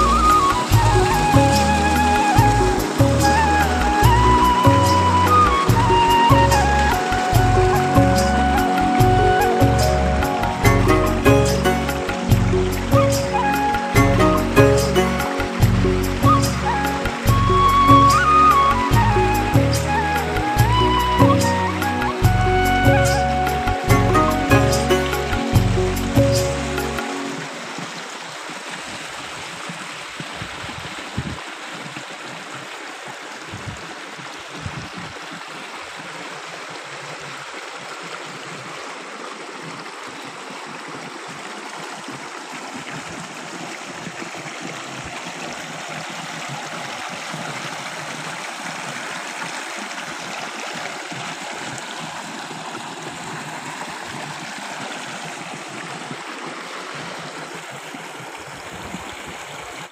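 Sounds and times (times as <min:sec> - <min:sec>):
water rushing in channel: 0:00.0 - 0:59.9.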